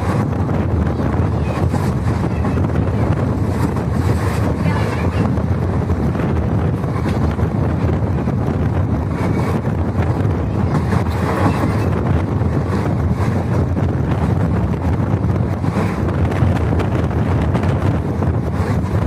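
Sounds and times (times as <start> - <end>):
train rumbling on rails: 0.0 - 19.0
wind buffeting microphone: 0.0 - 19.0.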